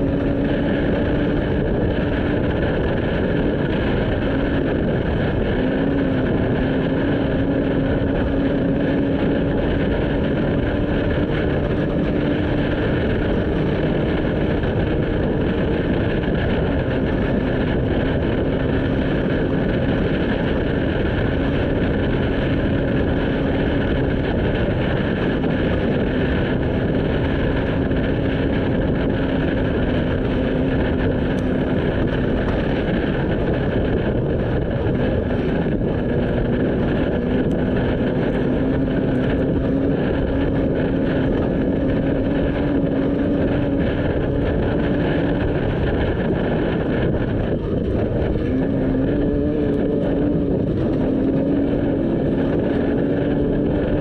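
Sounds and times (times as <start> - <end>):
race vehicle engine: 0.0 - 54.0
tyre road and wind noise: 0.0 - 54.0.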